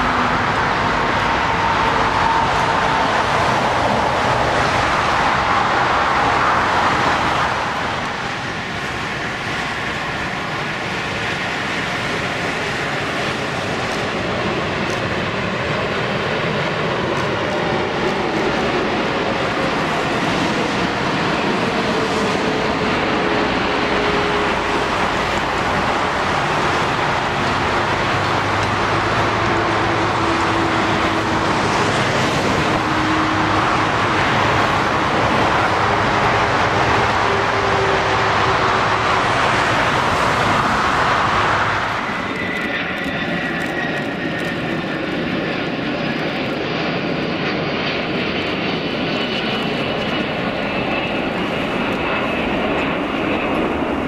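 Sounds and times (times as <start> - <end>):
high engine whine: 0.0 - 54.0
jet engines roaring past: 0.0 - 54.0.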